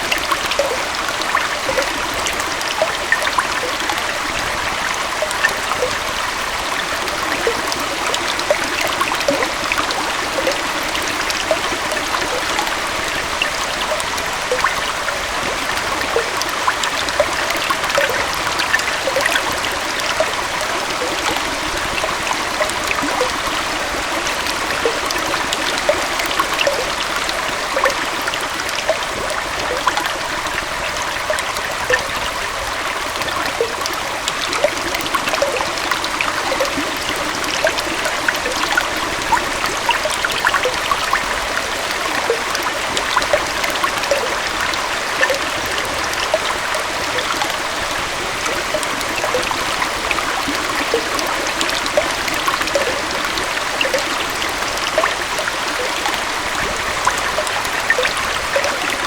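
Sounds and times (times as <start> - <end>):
water splashing over rocks: 0.0 - 59.0.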